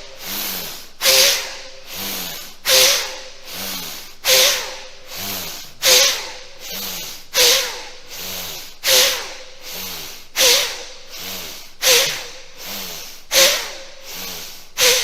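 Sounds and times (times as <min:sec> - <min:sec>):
rhythmic hissing swish: 0:00.0 - 0:15.0.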